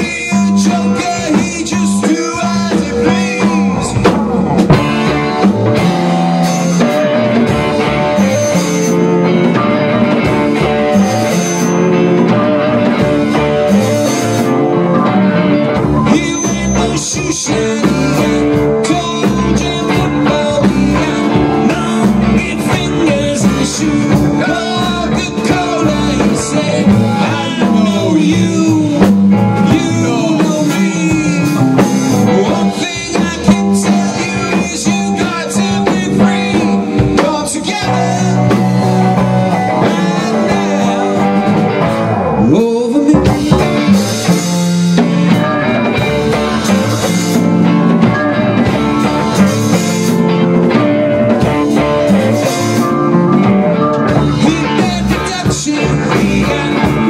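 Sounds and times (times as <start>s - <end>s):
drum kit: 0.0s - 57.0s
electric guitars: 0.0s - 57.0s
man singing: 0.0s - 57.0s.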